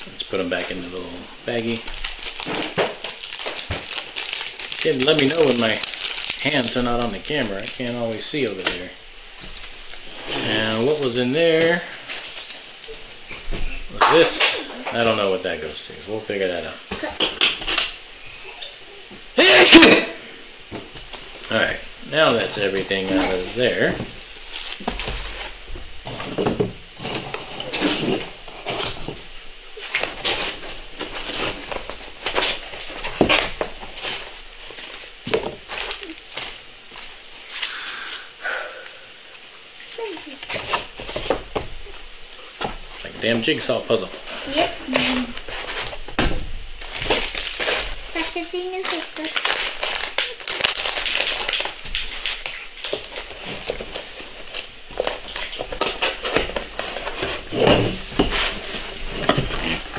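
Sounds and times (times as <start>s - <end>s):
packaging rustling and crinkling: 0.0s - 15.2s, 20.7s - 37.8s, 39.8s - 59.9s.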